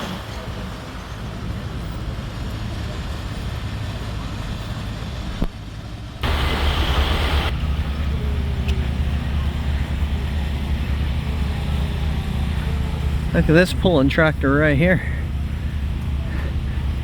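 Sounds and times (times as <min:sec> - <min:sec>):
background noise wash: 0:00.0 - 0:17.0
low vehicle engine rumble: 0:00.0 - 0:17.0.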